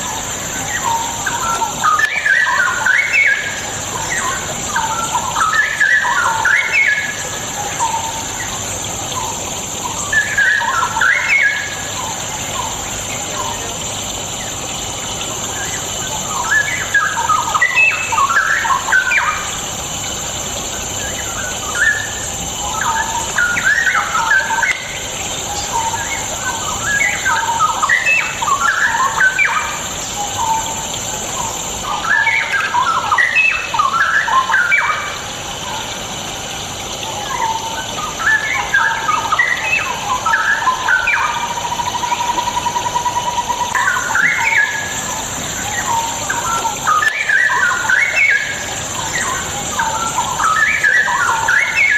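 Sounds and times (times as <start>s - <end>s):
bird warbling song: 0.0s - 51.9s.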